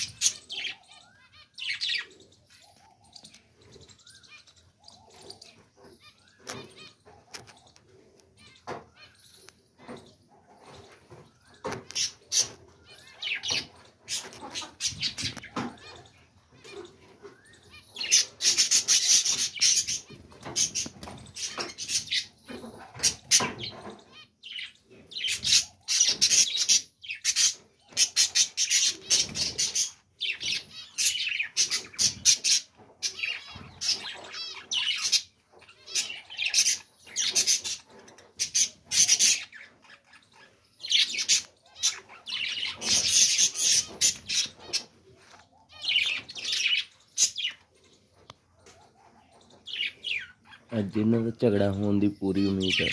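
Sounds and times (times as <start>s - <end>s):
budgerigars chattering and squawking: 0.0s - 52.9s.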